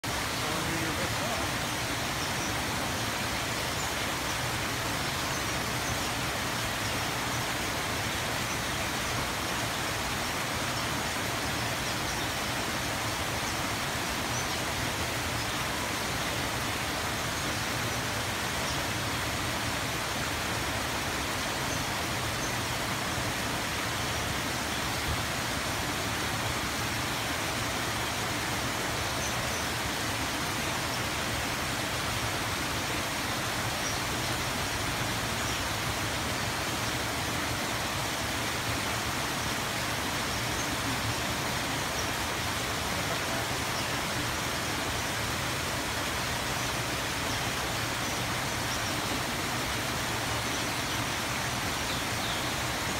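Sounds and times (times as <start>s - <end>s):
small waterfall rushing: 0.0s - 52.9s.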